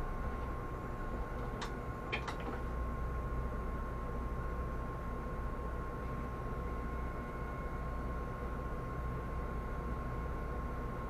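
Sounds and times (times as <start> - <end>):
bus engine rumble: 0.0 - 11.0
thin steady whine: 0.0 - 11.0.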